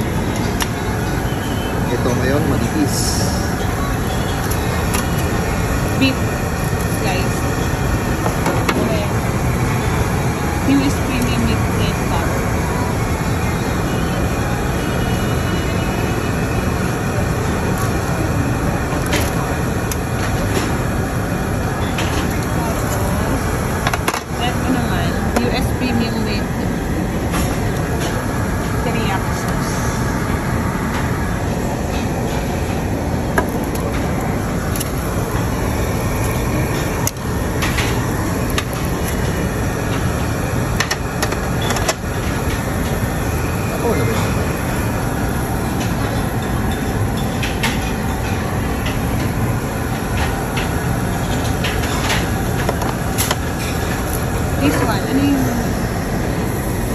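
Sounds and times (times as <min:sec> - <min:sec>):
low rumbling room noise: 0:00.0 - 0:56.9
restaurant din: 0:00.0 - 0:56.9.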